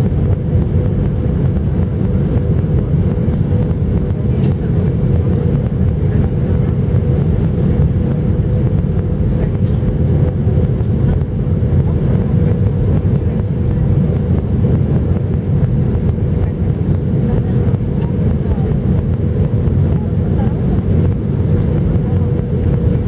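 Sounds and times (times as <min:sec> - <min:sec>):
aircraft engine and airflow rumble: 0:00.0 - 0:23.0
steady cabin hum: 0:00.0 - 0:23.0.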